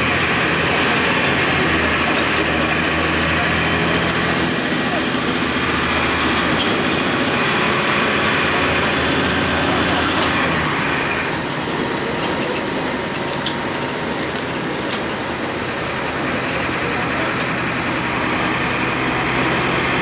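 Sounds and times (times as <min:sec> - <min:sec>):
bus diesel engine: 0:00.0 - 0:20.0
road noise: 0:00.0 - 0:20.0.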